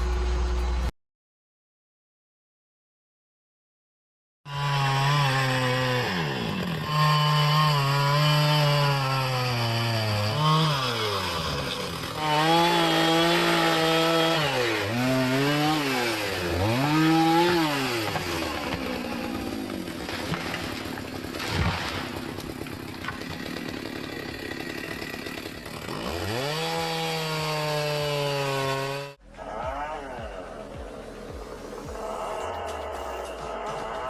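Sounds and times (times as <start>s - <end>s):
chainsaw engine revving: 4.5s - 34.0s.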